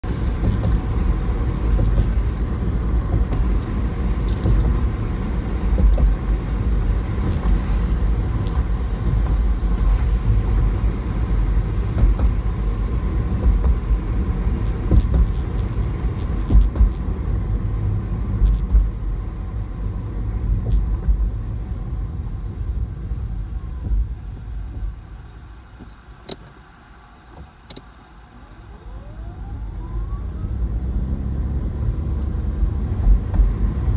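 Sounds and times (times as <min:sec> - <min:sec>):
car engine: 0:00.0 - 0:33.9
tyres rumbling on road: 0:00.0 - 0:33.9.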